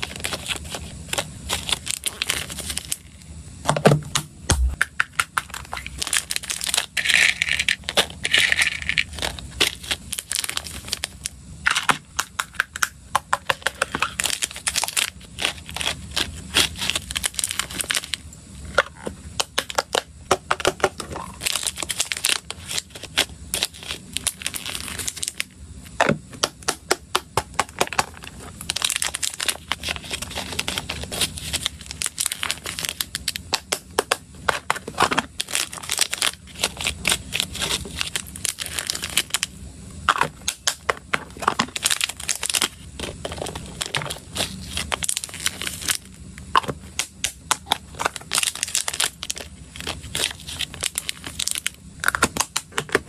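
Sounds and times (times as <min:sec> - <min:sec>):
plastic bags crinkling: 0:00.0 - 0:03.2, 0:05.2 - 0:12.4, 0:13.5 - 0:18.2, 0:20.6 - 0:25.6, 0:27.8 - 0:39.5, 0:40.1 - 0:53.0.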